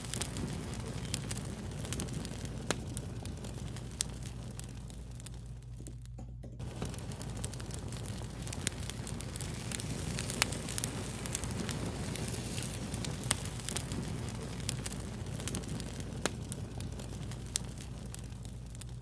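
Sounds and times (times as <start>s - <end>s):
fire crackling and popping: 0.0s - 19.0s
low hiss and rumble: 0.0s - 19.0s.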